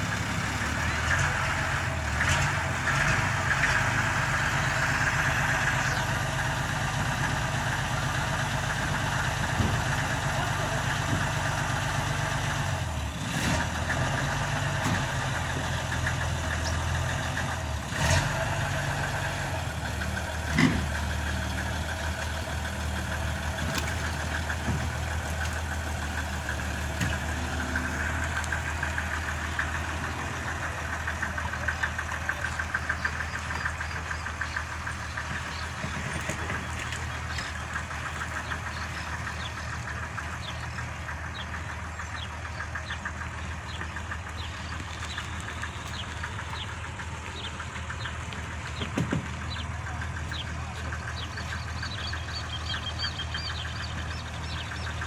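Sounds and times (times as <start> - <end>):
truck engine running slowly: 0.0 - 55.0.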